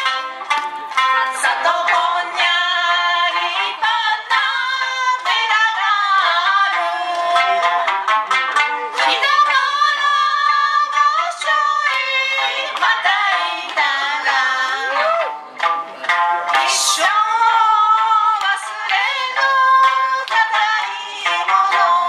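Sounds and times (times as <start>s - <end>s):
plucked string instruments: 0.0s - 22.0s
woman singing: 1.1s - 8.0s, 8.9s - 15.3s, 16.5s - 22.0s.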